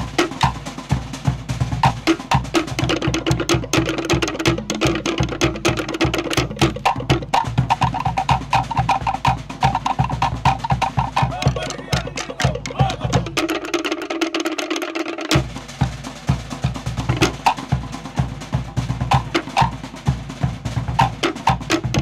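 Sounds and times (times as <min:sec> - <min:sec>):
deep bass drum: 0:00.0 - 0:13.8, 0:15.3 - 0:22.0
wooden slit drums struck fast: 0:00.0 - 0:22.0.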